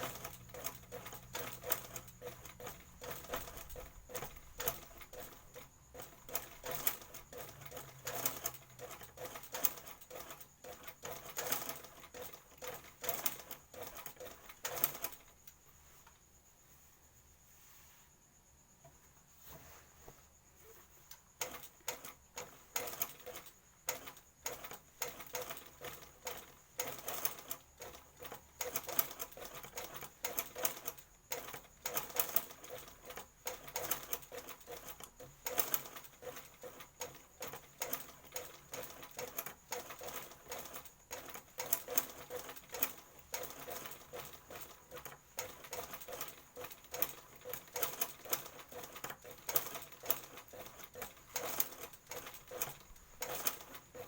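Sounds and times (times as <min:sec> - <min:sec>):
sewing machine stitching: 0:00.0 - 0:15.4, 0:21.4 - 0:54.0.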